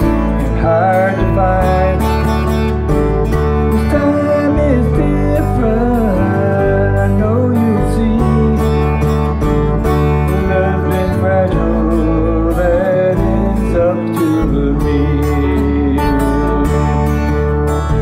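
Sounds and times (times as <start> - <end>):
acoustic guitar: 0.0 - 18.0
electric keyboard: 0.0 - 18.0.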